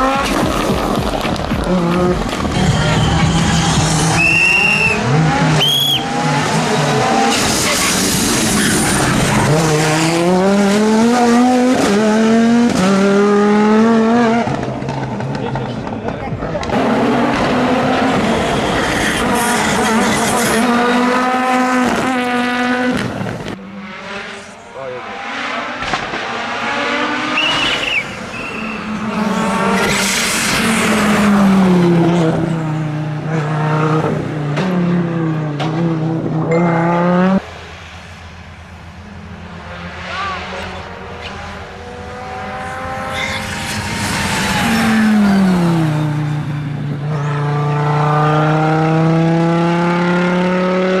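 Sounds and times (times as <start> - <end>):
rally car engine accelerating: 0.0 - 38.0, 38.9 - 51.0.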